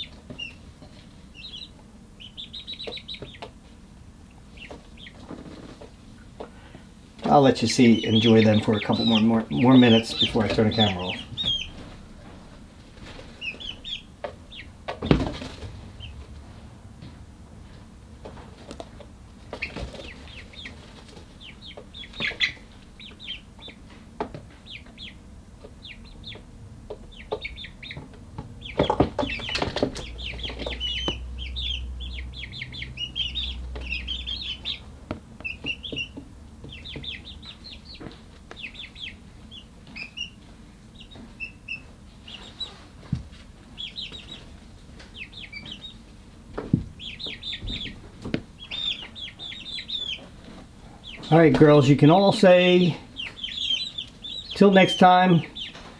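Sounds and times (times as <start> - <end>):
chicks peeping: 0.0 - 55.9.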